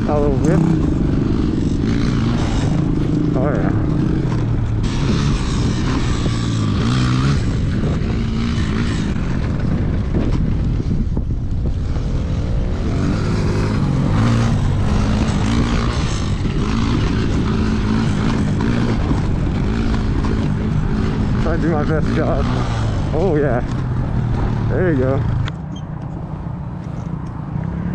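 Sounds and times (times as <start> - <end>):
small engine revving: 0.0 - 10.5, 11.6 - 25.6
wind rumble on microphone: 0.0 - 27.9.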